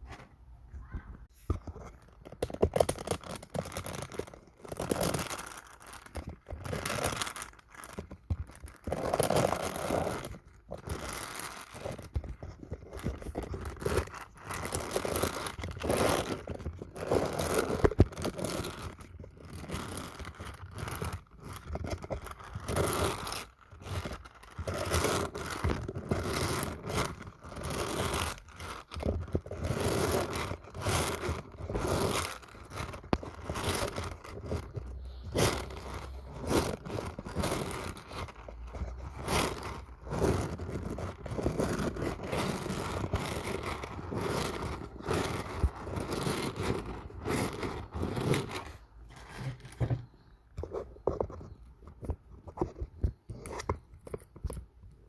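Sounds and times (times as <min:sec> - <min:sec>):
crinkling: 0:00.0 - 0:55.0
tearing: 0:02.4 - 0:49.7
scraping strokes: 0:03.0 - 0:51.4.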